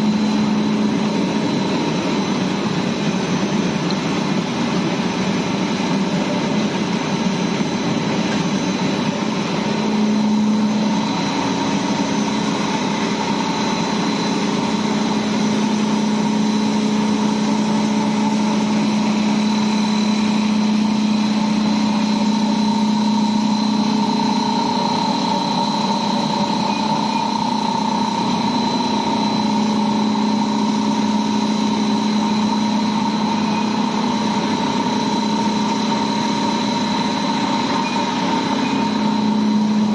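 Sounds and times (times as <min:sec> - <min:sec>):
boiler machinery humming: 0:00.0 - 0:39.9.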